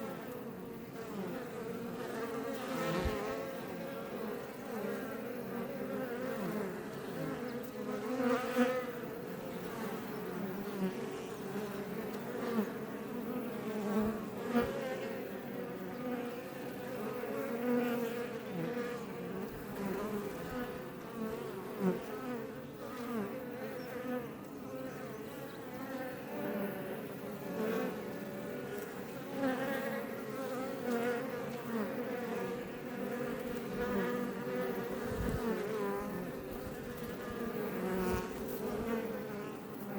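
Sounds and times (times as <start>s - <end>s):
bee flying past: 0.0s - 39.9s
bees buzzing: 0.0s - 39.9s.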